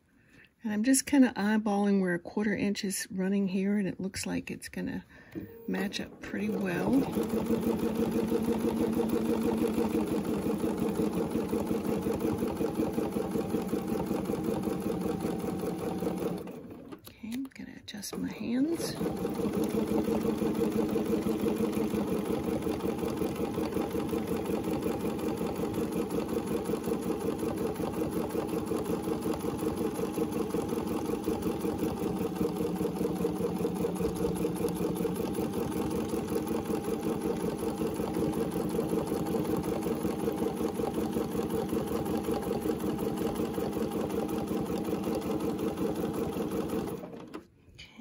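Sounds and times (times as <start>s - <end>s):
sewing machine stitching: 5.3s - 17.4s, 18.0s - 47.5s.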